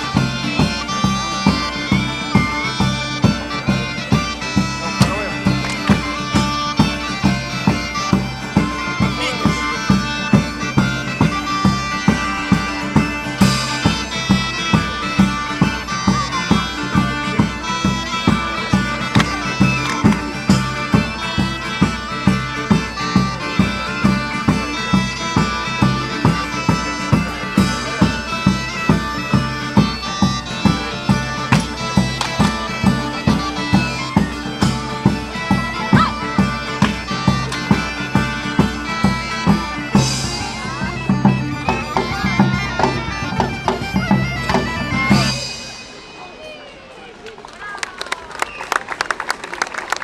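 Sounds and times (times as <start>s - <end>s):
drum beating: 0.0s - 46.0s
bagpipes playing folk tune: 0.0s - 46.7s.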